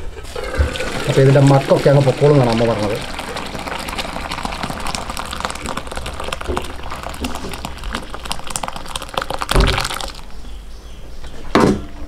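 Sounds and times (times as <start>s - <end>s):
water pouring into strainer: 0.3s - 10.3s.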